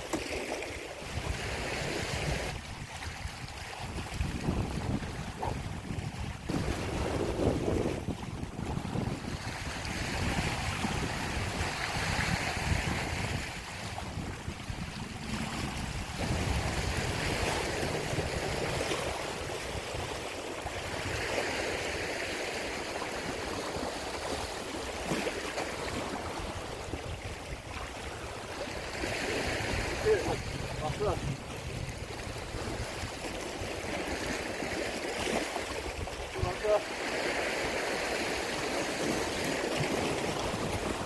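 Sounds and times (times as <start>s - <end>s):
sea waves washing against rocks: 0.0s - 41.0s
wind buffeting microphone: 1.0s - 41.0s.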